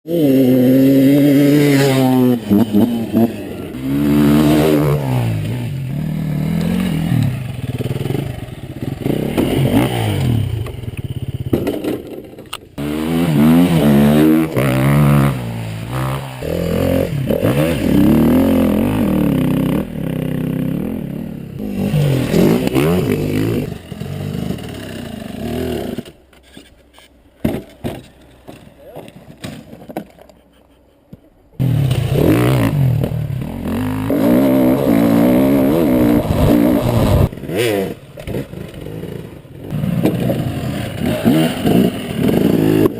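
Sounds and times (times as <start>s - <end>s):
dirt bike engines revving: 0.1s - 27.1s, 31.6s - 42.9s.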